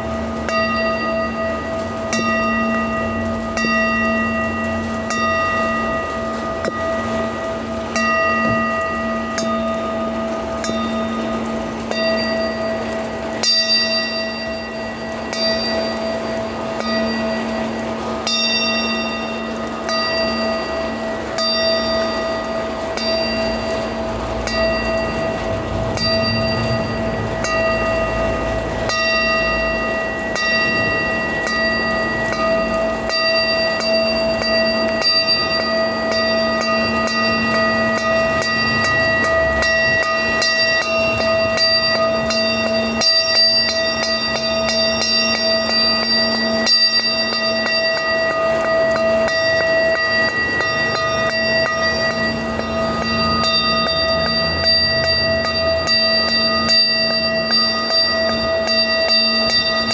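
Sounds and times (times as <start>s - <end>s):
ringing metallic tones: 0.0s - 59.9s.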